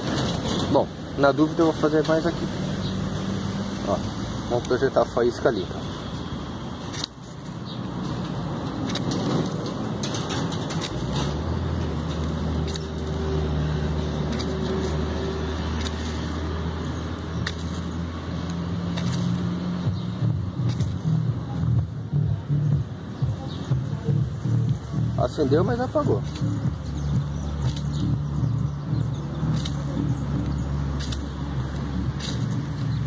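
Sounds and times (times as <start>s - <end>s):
vehicle engine humming: 0.0s - 33.0s.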